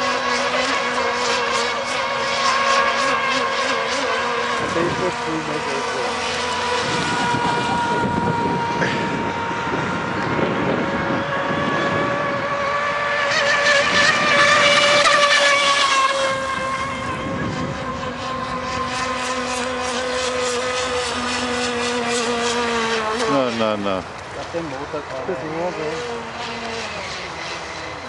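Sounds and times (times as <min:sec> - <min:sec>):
model boat engines racing: 0:00.0 - 0:28.0.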